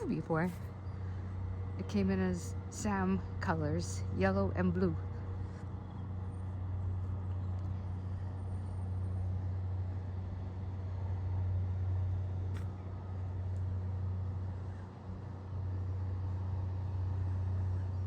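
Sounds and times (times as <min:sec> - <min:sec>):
low engine drone: 0:00.0 - 0:18.0
outdoor noise: 0:00.0 - 0:18.0.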